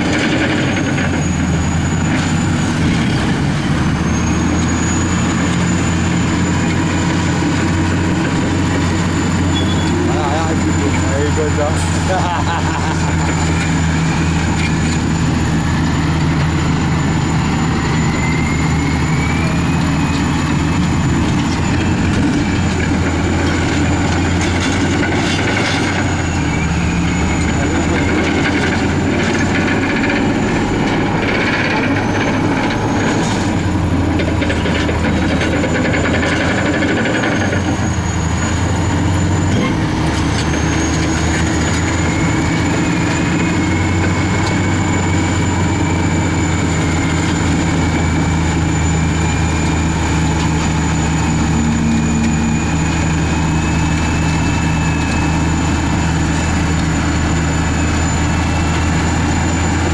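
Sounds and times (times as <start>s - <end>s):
diesel engines under heavy load: 0.0s - 59.9s
high whine: 4.0s - 59.9s.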